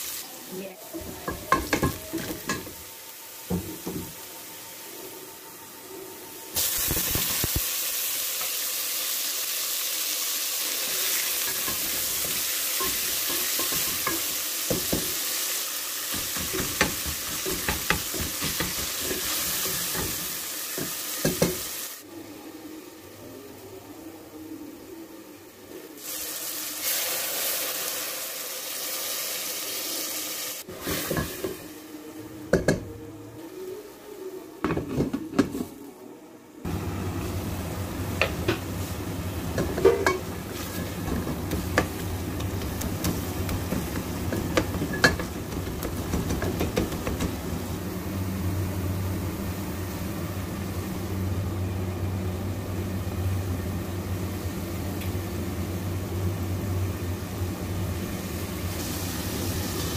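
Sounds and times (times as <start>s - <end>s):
masala sizzling in metal pot: 0.0s - 23.6s, 24.4s - 32.8s, 36.6s - 59.9s.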